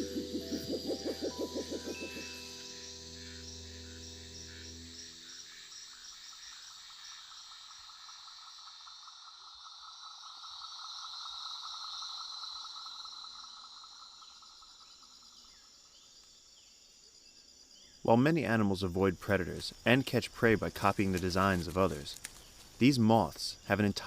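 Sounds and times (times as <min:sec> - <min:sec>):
higher insect chirps: 0:00.0 - 0:24.0
insect pulsing trill: 0:00.0 - 0:24.0.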